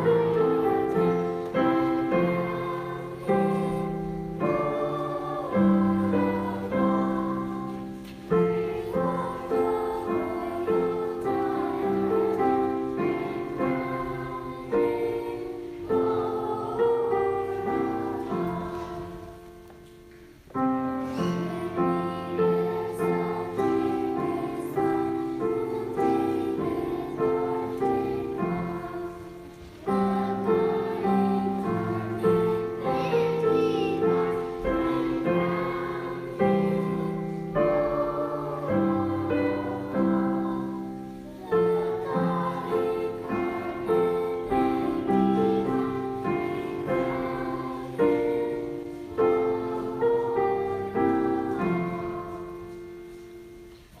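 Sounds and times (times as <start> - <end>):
children's choir singing a hymn: 0.0 - 54.0
piano accompaniment: 0.0 - 54.0.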